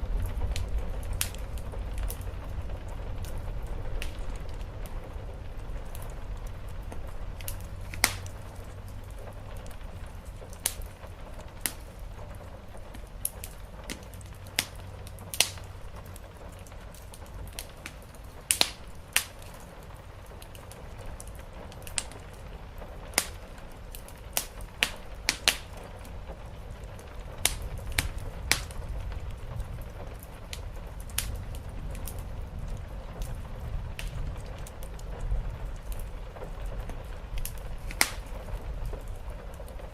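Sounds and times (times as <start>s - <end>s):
rain on the roof: 0.0s - 39.9s
wood fire crackling and popping: 0.0s - 39.9s.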